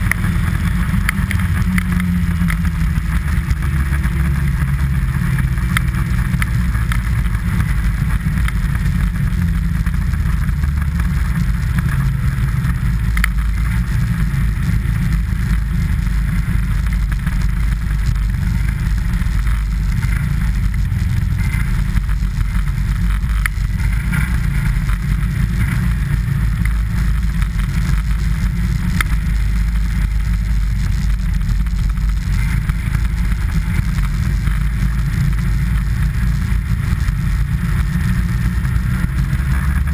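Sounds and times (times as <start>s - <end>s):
rumble and hiss over snow: 0.0s - 39.9s.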